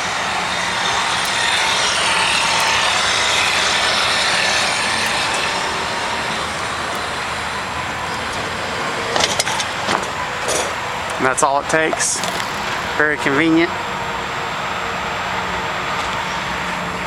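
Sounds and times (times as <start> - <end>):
awning motor whirring: 0.0 - 17.0.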